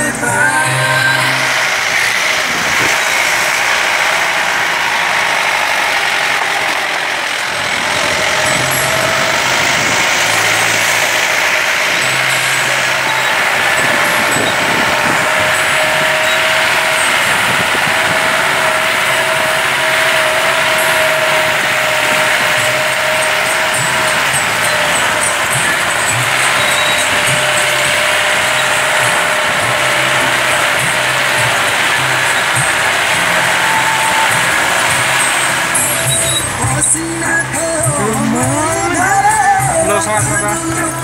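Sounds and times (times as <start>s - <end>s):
thin steady whine: 0.0s - 41.0s
vehicle engine and road noise: 0.0s - 41.0s.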